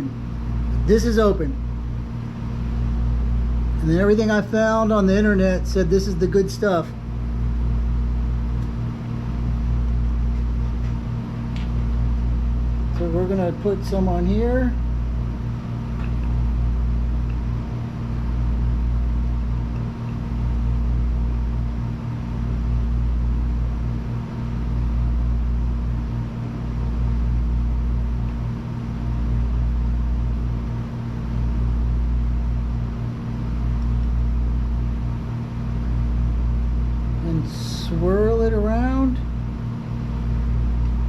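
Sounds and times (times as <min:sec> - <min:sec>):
pulsing low machine hum: 0:00.0 - 0:41.0.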